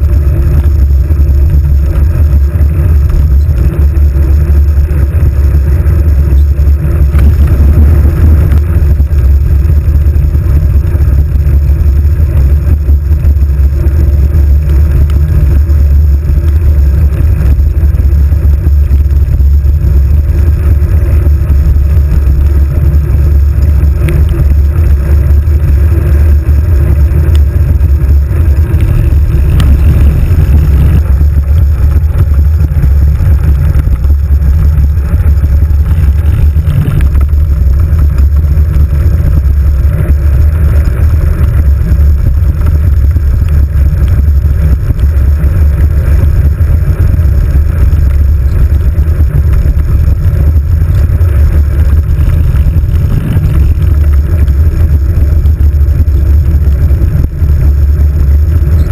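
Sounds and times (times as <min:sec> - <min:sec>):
wind and road vibration rumble: 0:00.0 - 0:58.9.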